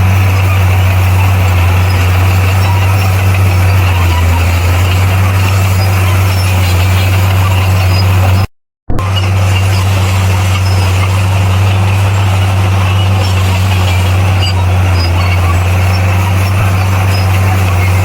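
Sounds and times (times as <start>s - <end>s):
bulldozer diesel engine drone: 0.0s - 18.0s.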